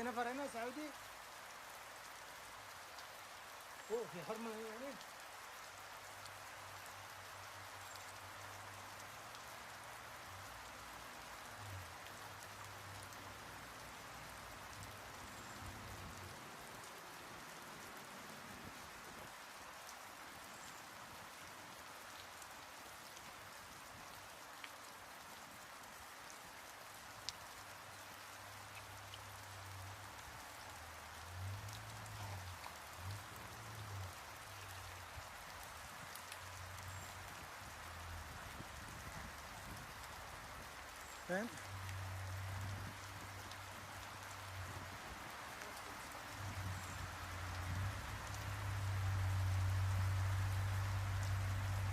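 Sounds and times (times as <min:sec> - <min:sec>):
faint rain falling: 0:00.0 - 0:51.9.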